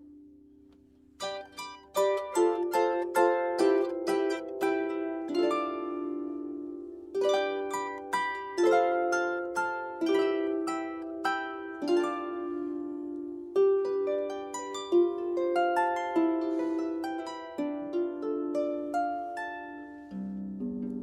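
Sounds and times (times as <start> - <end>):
harp playing slow melody: 0.0 - 21.0.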